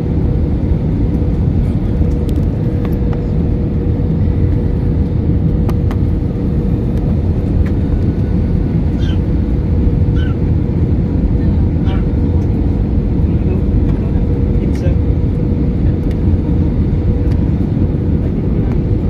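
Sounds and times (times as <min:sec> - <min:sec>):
airliner engine and airflow rumble: 0:00.0 - 0:19.0.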